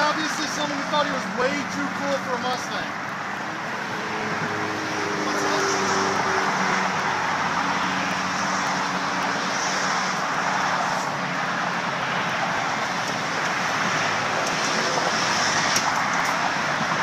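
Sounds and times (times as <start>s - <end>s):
freeway traffic rushing: 0.0s - 17.0s.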